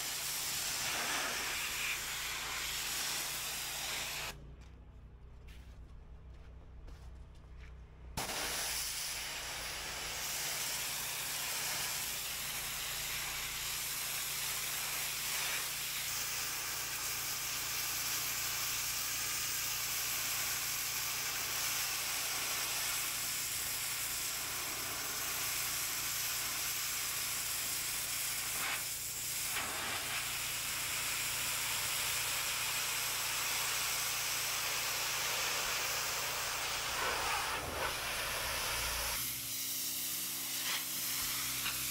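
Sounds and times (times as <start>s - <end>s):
pressure washer spraying paving: 0.0s - 4.4s, 8.2s - 41.9s.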